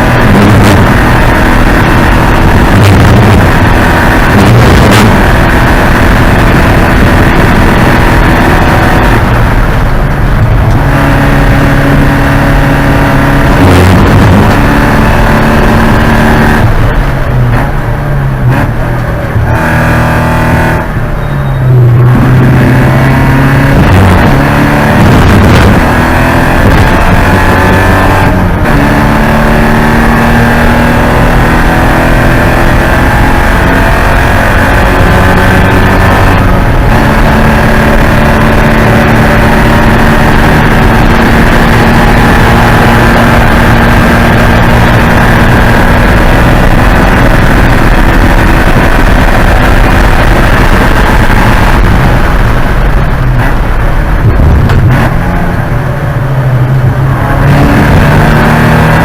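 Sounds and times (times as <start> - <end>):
race car engine revving hard: 0.0 - 59.0.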